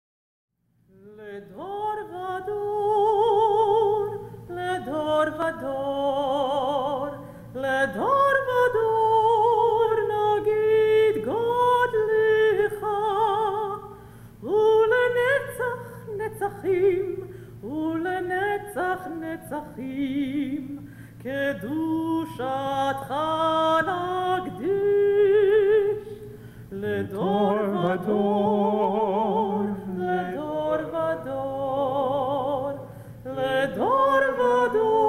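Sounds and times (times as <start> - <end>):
woman singing with vibrato: 0.9 - 35.0.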